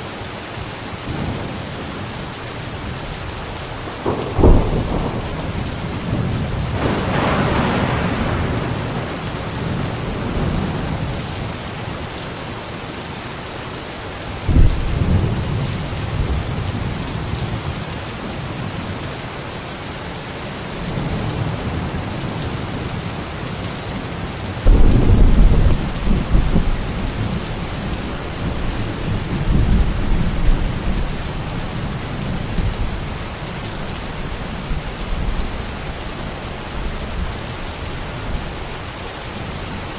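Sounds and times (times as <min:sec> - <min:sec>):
rain hiss: 0:00.0 - 0:39.9
rolling thunder rumbles: 0:01.1 - 0:11.7, 0:14.4 - 0:19.0, 0:20.8 - 0:38.6.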